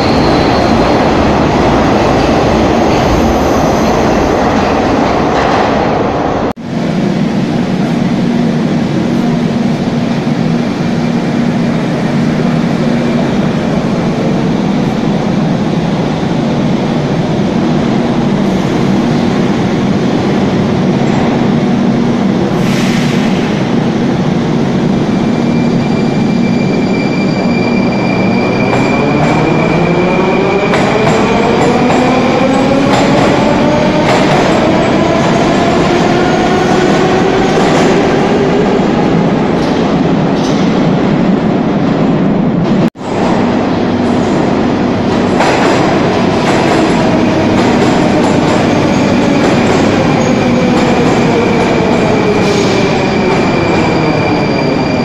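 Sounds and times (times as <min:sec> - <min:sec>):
metro train running: 0:00.0 - 0:55.0
rising train whine: 0:00.0 - 0:55.0.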